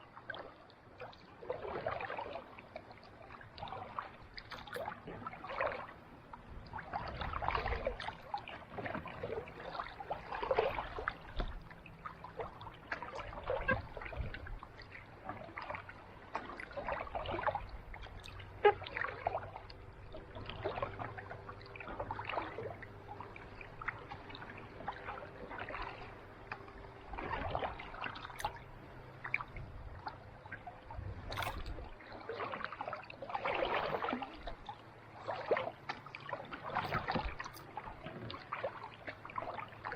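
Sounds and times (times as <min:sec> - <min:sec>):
paddle strokes swishing in water: 0:00.0 - 0:39.9
water trickling and dripping: 0:00.0 - 0:39.9.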